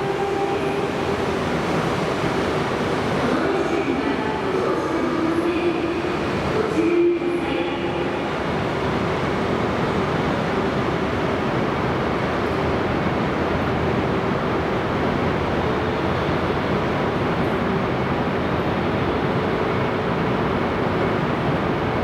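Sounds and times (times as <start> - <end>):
train at station platform: 0.0 - 22.0.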